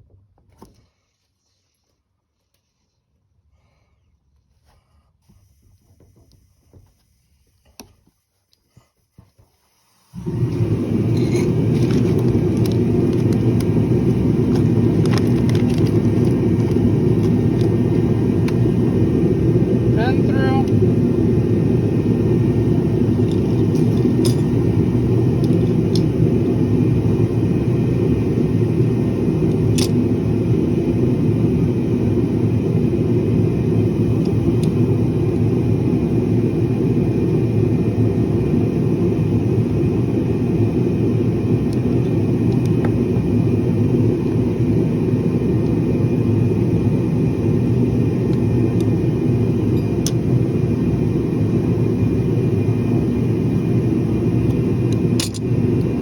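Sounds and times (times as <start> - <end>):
steady low rumble: 10.2 - 56.0.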